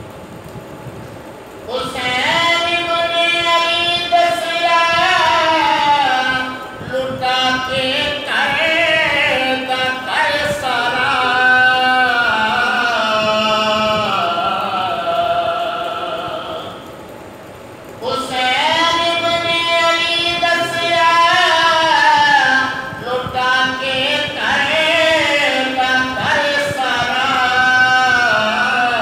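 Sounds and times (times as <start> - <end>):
man singing unaccompanied: 1.7 - 16.9, 18.0 - 29.0.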